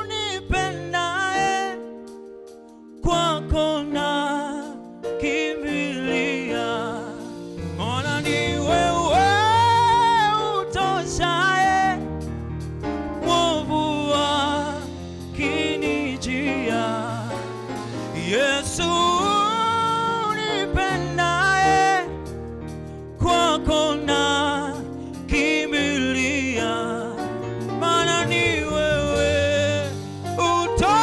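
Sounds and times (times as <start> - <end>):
group singing a gospel hymn: 0.0 - 1.3, 4.0 - 12.2, 13.2 - 22.3, 23.2 - 31.0
instrumental accompaniment with bass: 0.0 - 31.0.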